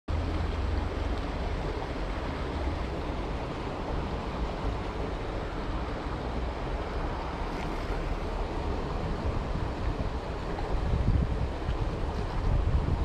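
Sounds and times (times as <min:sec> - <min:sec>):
river rushing over stones: 0:00.1 - 0:13.0
wind rumbling on microphone: 0:00.1 - 0:13.0.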